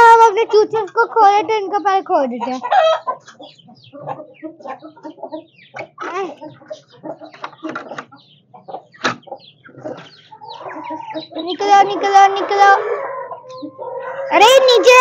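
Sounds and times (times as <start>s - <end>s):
chickens clucking: 0.0s - 15.0s
chicks peeping: 0.0s - 15.0s.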